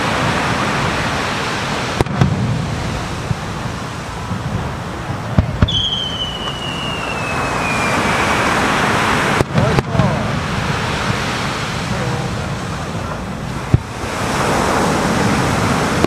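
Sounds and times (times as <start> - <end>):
fireworks bangs: 0.0 - 16.0
sea waves: 0.0 - 16.0
whistling firework: 0.0 - 16.0.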